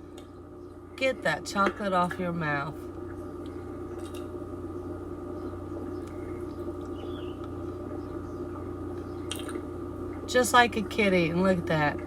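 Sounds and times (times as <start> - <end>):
steady hum of level tones: 0.0 - 12.0.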